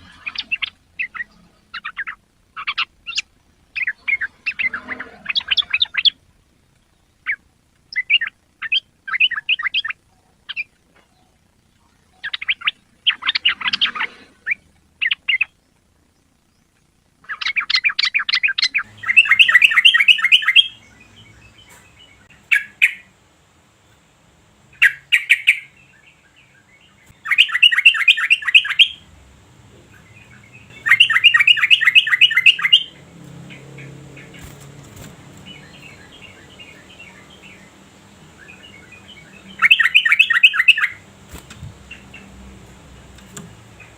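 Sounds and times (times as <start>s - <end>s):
bird chattering calls: 0.0s - 6.2s, 7.2s - 15.6s, 17.2s - 23.1s, 27.0s - 29.0s, 29.9s - 43.9s.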